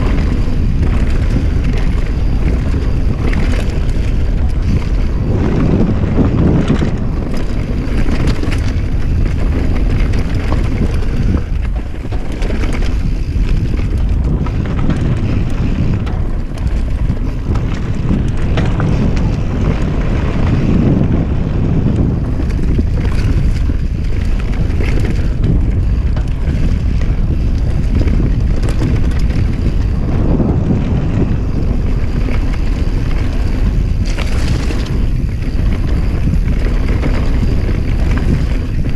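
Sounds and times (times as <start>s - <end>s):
bike clattering over bumps: 0.0s - 38.9s
tyres rolling on dirt trail: 0.0s - 38.9s
wind buffeting microphone: 0.0s - 38.9s.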